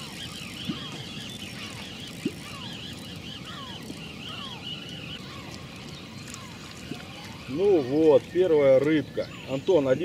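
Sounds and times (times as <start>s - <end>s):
bird trilling: 0.0s - 10.0s
wind: 0.0s - 10.0s.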